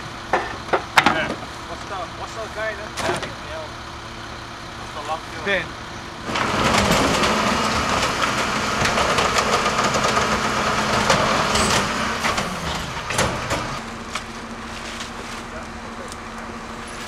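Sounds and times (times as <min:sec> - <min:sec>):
large engine whining: 0:00.0 - 0:17.0.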